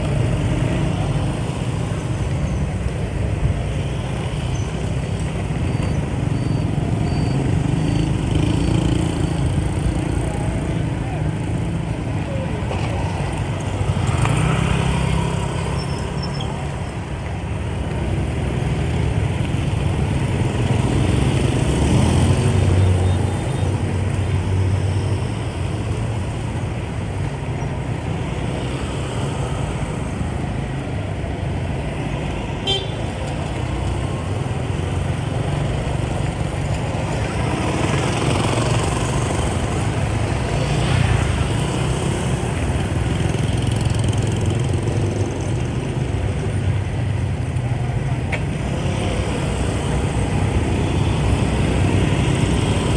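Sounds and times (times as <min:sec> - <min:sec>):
motorbike traffic engines: 0:00.0 - 0:52.9.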